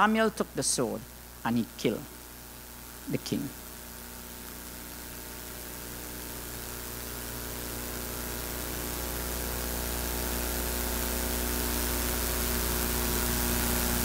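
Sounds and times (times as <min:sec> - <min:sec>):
electrical hum with hiss: 0:00.0 - 0:14.0.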